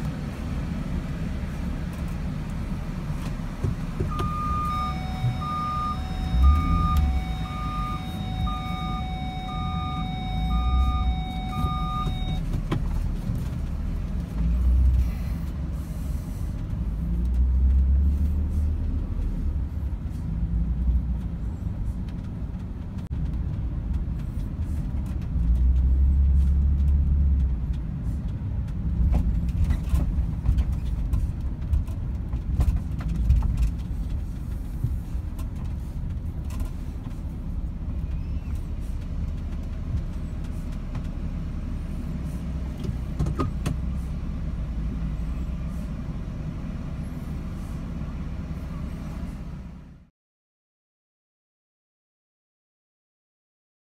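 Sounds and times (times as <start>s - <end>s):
van rumbling on sand: 0.0s - 50.0s.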